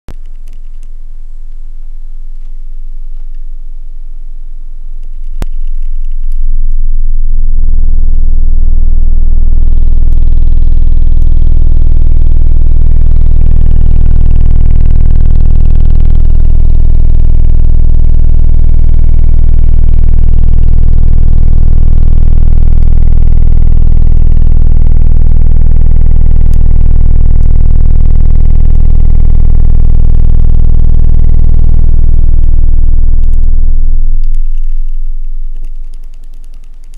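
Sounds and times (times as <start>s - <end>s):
subwoofer deep bass note: 1.0s - 35.9s.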